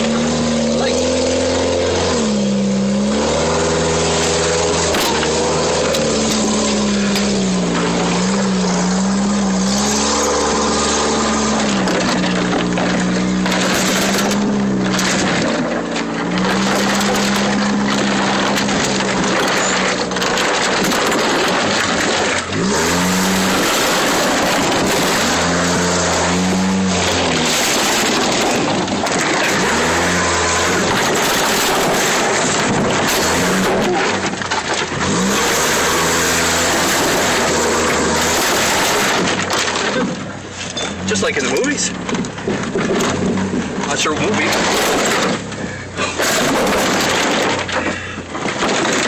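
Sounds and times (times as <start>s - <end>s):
branches scraping against car body: 0.0s - 49.0s
car engine revving roughly: 0.0s - 49.0s
exhaust scraping the ground: 0.0s - 49.0s.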